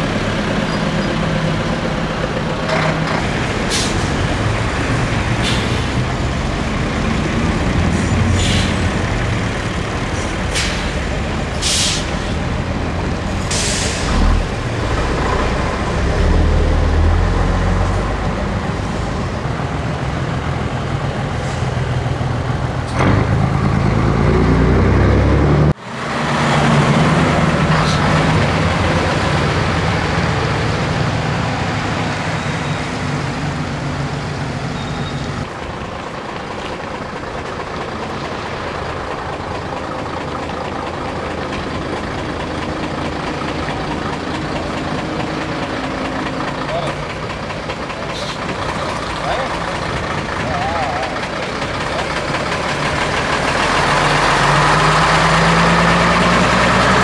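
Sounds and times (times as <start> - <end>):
truck diesel engines running: 0.0 - 57.0.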